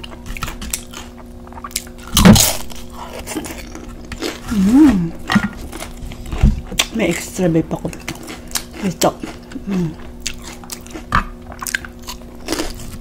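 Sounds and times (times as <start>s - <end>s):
tortilla chip crunch: 0.0s - 7.2s, 7.9s - 13.0s.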